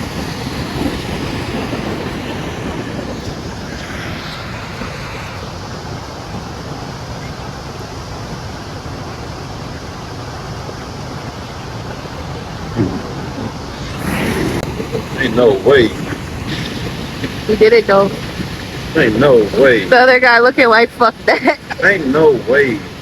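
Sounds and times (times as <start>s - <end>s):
whitewater rushing: 0.0s - 23.0s
wind buffeting microphone: 0.0s - 23.0s.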